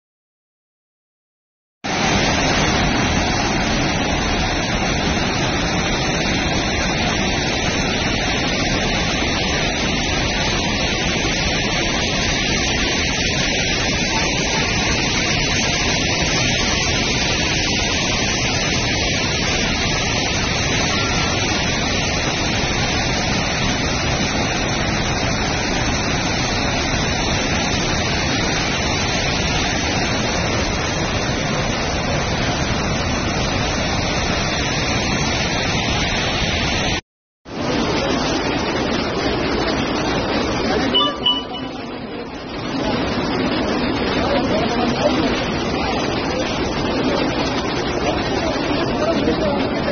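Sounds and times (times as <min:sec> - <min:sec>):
floodwater rushing: 0:01.9 - 0:49.9.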